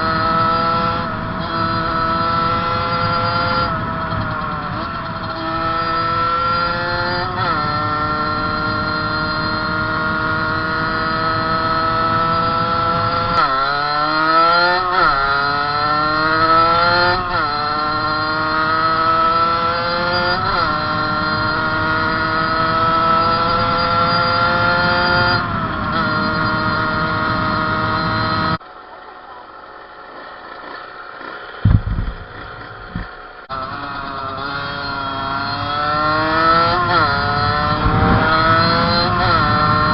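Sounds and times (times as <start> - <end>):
two-stroke motorbike engine at full throttle: 0.0 - 39.9.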